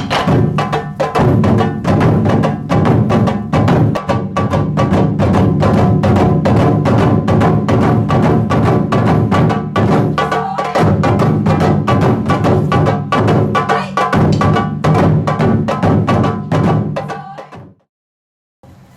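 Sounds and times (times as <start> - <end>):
taiko drums ensemble: 0.0 - 17.8.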